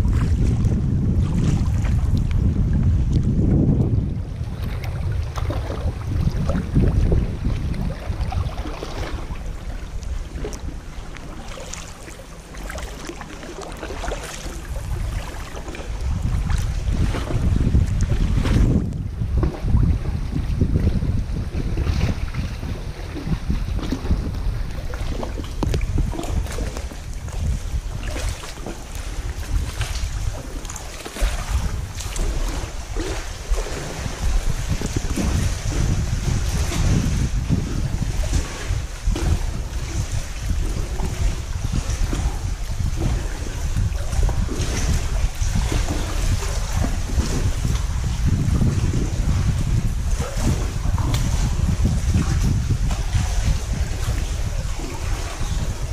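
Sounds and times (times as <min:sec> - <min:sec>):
water lapping around kayak hull: 0:00.0 - 0:55.9
wind buffeting microphone: 0:00.0 - 0:55.9.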